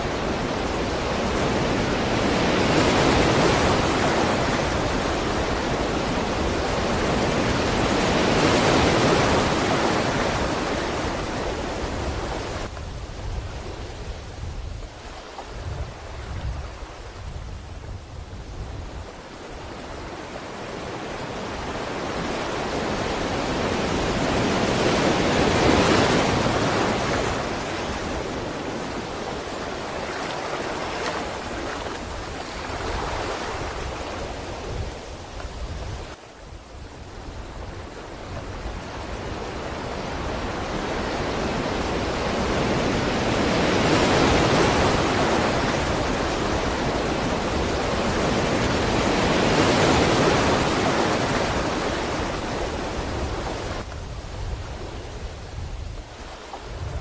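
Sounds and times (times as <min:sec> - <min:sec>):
sea waves washing: 0:00.0 - 0:57.0.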